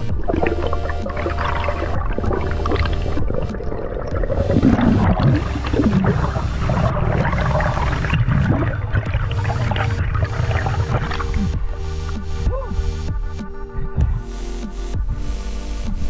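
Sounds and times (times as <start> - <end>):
bubbling: 0.0 - 13.1
churning low rumble: 0.0 - 13.3
water gurgling and rushing: 0.0 - 13.3.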